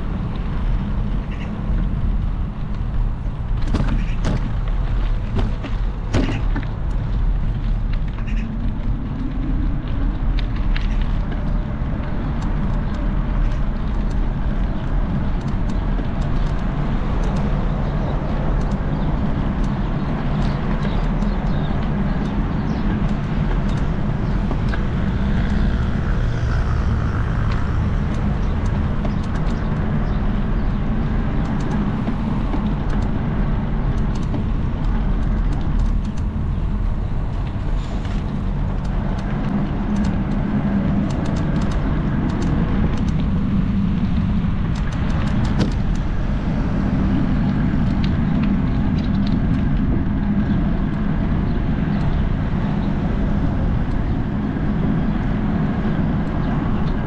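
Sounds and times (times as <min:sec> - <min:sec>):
road vehicle rumble: 0:00.0 - 0:57.0.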